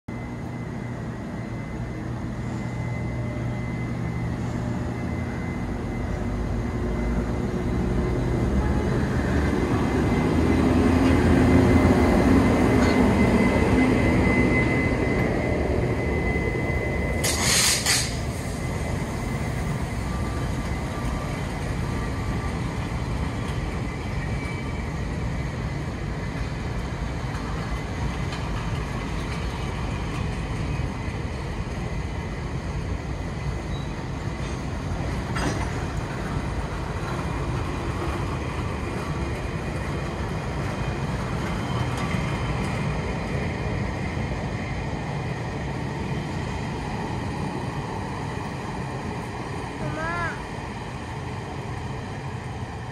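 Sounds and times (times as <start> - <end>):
electric locomotive passing: 0.1 - 52.9
wheels rumbling on rail: 0.1 - 52.9.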